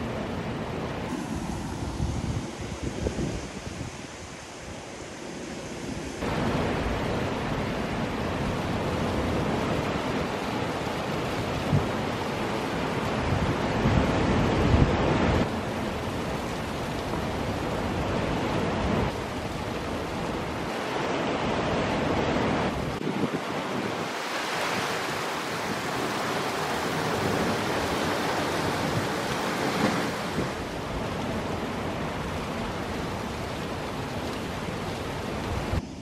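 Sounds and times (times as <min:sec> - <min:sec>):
wind on microphone: 0:00.0 - 0:10.4, 0:11.2 - 0:36.0
water rushing: 0:00.0 - 0:36.0.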